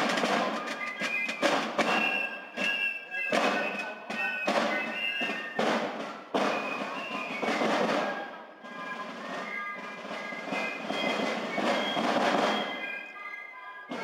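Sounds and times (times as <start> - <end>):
marching drum beats: 0.0 - 13.2
high wind-instrument melody: 0.0 - 14.0.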